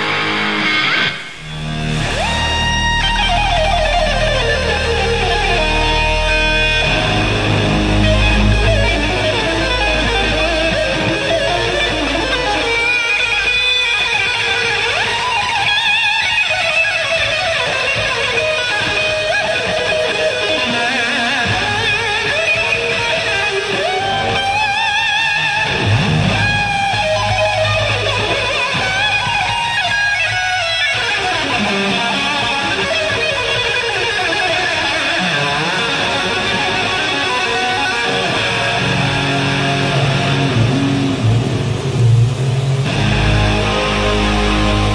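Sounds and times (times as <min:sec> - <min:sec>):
electric guitar solo: 0:00.0 - 0:44.9.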